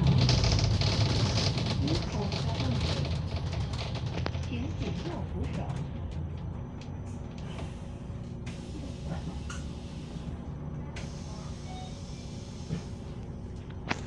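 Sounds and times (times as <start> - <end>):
bus engine hum: 0.0 - 14.0
road noise: 0.0 - 14.0.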